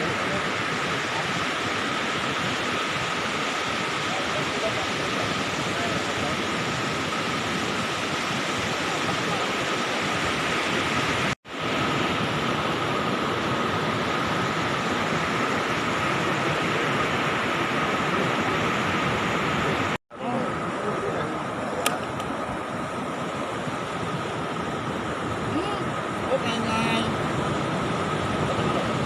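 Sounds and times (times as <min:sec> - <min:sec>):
surf rushing: 0:00.0 - 0:29.0
wind: 0:00.0 - 0:29.0.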